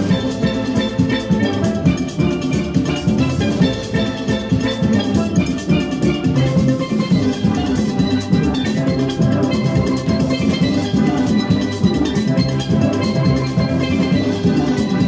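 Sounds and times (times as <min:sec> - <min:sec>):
percussion hits: 0:00.0 - 0:15.0.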